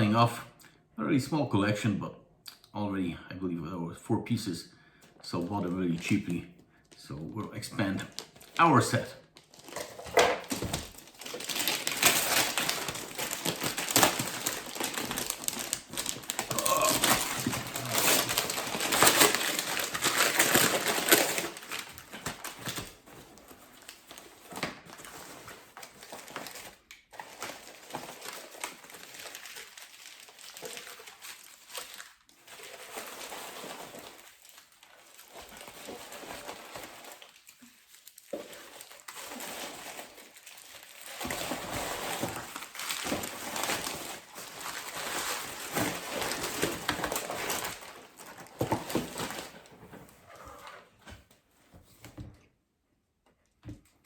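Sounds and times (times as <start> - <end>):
packaging crinkling and rustling: 7.6 - 51.4.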